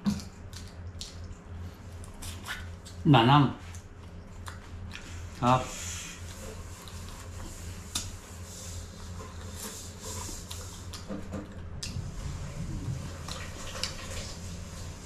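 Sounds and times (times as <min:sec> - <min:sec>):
chewing shrimp: 0:00.0 - 0:14.4
steady low hum: 0:00.0 - 0:15.0.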